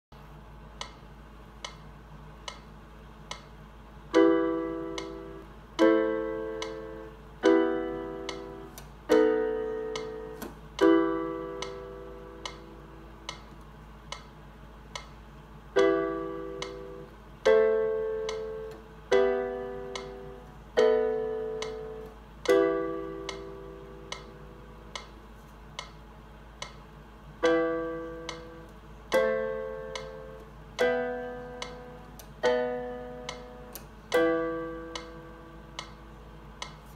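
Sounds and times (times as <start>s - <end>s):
piano chords on electronic keyboard: 0.2s - 36.9s
metronome clicks: 0.7s - 15.2s, 15.8s - 36.9s.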